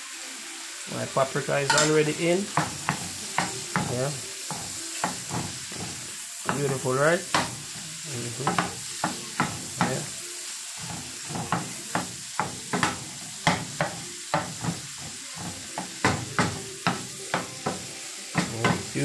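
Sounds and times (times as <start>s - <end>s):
shrimp sizzling in oil: 0.0s - 19.0s
wooden spoon scraping pan: 1.7s - 10.1s, 10.8s - 19.0s.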